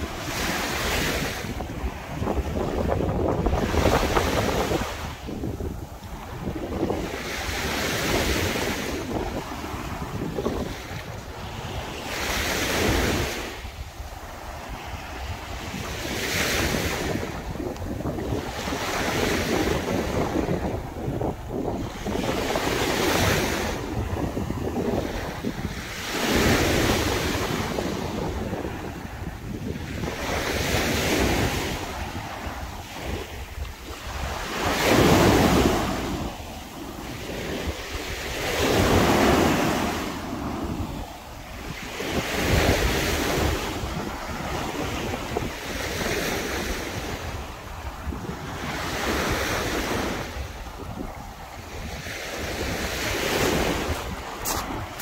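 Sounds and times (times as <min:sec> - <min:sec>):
waves breaking on beach: 0:00.0 - 0:55.0
wind rumbling on microphone: 0:00.0 - 0:55.0.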